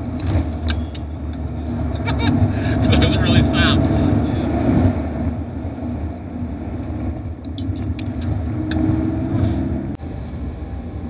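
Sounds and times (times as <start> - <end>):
car engine running: 0.0 - 11.0
road rumble: 0.0 - 11.0.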